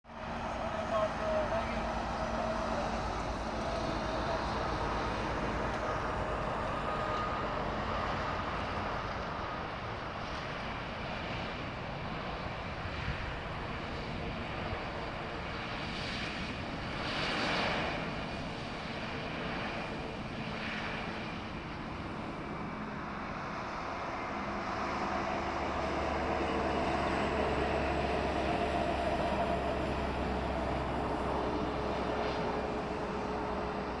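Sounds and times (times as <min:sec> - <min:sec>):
jet airliner engine hum: 0:00.1 - 0:34.0.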